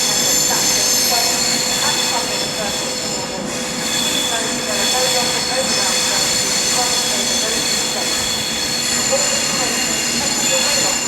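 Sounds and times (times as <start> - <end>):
train rolling slowly: 0.0 - 11.0
train wheels squealing on rails: 0.0 - 11.0.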